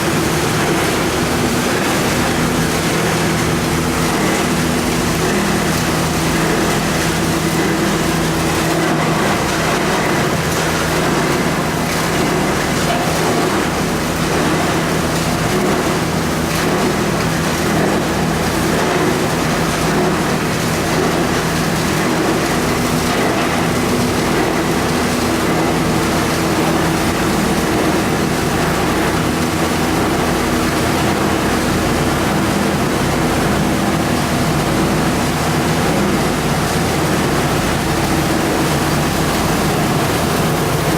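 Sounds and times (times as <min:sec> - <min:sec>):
wire recycling machine running: 0:00.0 - 0:40.9.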